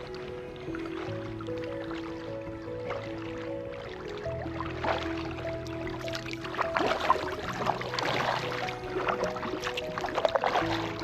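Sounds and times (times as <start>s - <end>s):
background music of held notes: 0.0s - 11.0s
water splashes: 0.0s - 11.0s.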